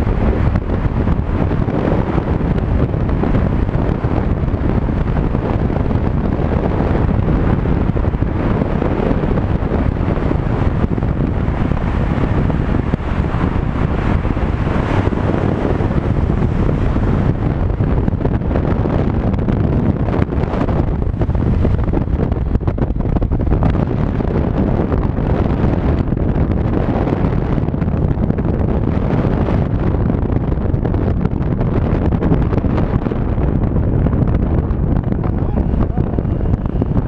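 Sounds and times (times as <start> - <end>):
scooter running noise: 0.0 - 37.0
wind buffeting microphone: 0.0 - 37.0.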